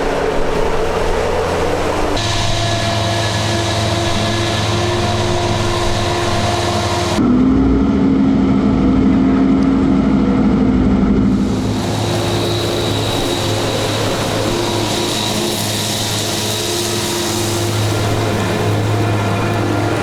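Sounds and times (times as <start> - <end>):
farm machinery diesel engines: 0.0 - 7.5, 11.1 - 20.0.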